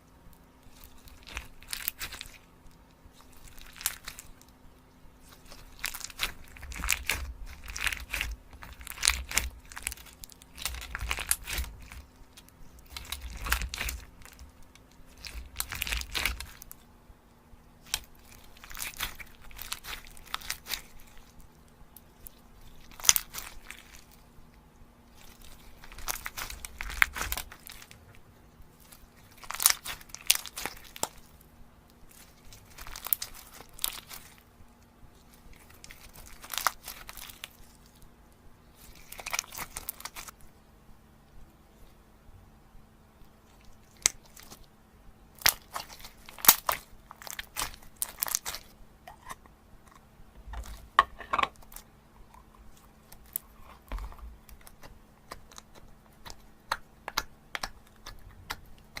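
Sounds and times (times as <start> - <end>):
chocolate wrapper crinkling: 0.6 - 4.6, 5.2 - 16.8, 17.8 - 24.4, 25.1 - 28.1, 28.7 - 34.5, 35.2 - 38.0, 38.7 - 40.4, 45.4 - 59.0.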